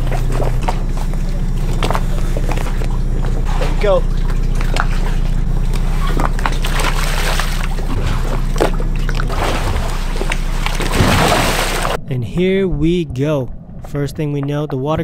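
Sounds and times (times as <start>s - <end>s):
water sloshing: 0.0s - 14.7s
boat engine idling: 0.0s - 15.0s.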